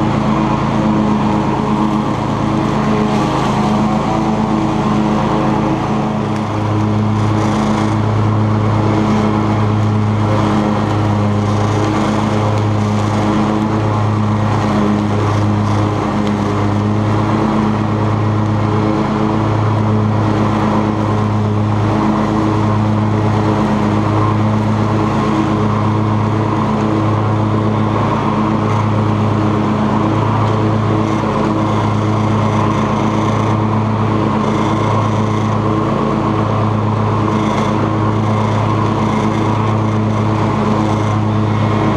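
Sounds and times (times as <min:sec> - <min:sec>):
lawn tractor engine humming: 0:00.0 - 0:41.9.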